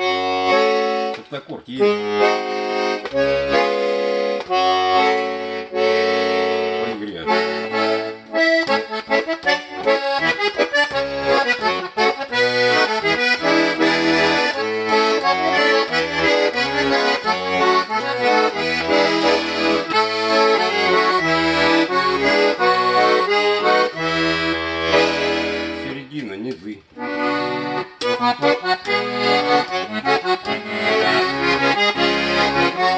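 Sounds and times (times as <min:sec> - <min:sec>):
button accordion playing: 0:00.0 - 0:32.9.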